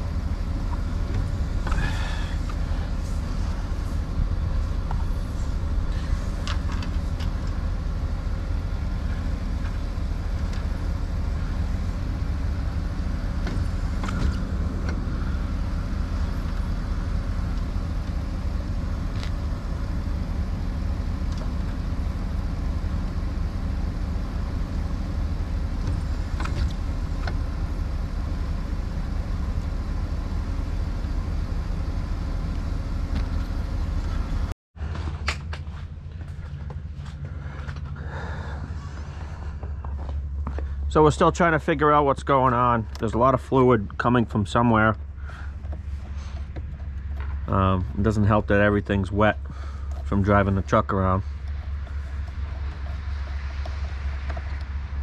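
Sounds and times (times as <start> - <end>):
pickup engine idling: 0.0 - 34.5, 35.3 - 55.0.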